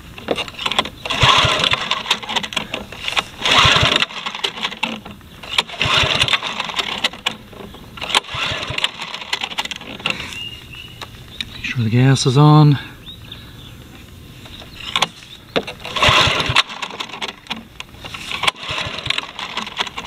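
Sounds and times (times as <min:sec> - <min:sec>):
lawn mower engine cranking: 0:00.0 - 0:11.1, 0:14.4 - 0:20.0.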